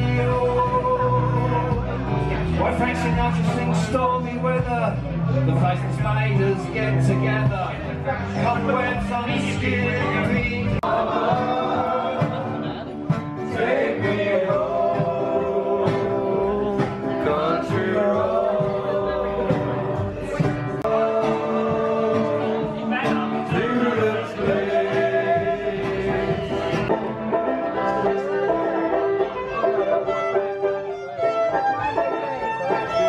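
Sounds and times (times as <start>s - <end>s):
acoustic guitar: 0.0s - 33.0s
double bass: 0.0s - 33.0s.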